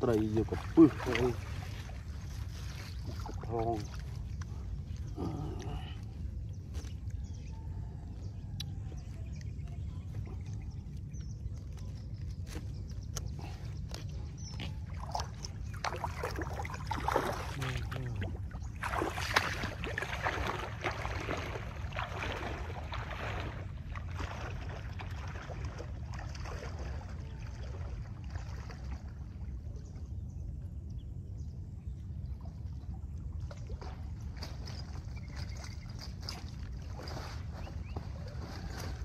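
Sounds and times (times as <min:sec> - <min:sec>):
person wading through water: 0:00.0 - 0:30.2, 0:31.9 - 0:39.0
steady low rumble: 0:00.0 - 0:39.0.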